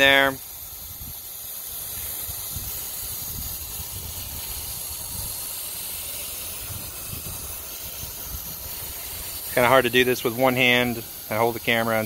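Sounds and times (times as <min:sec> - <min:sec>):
hose nozzle spraying water on soil: 0:00.0 - 0:12.0.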